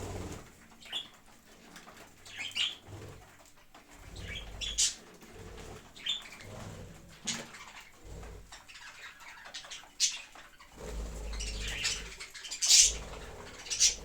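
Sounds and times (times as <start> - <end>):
pet birds chirping: 0.0 - 14.0.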